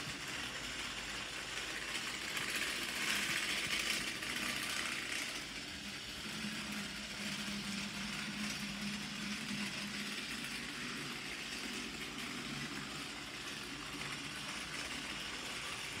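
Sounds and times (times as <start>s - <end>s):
toy train motor humming: 0.0s - 16.0s.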